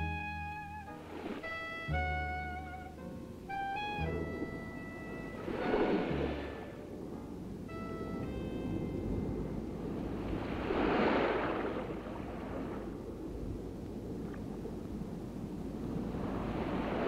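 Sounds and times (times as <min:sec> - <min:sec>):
low rush of water: 0:00.0 - 0:17.0
waves crashing: 0:00.1 - 0:17.0.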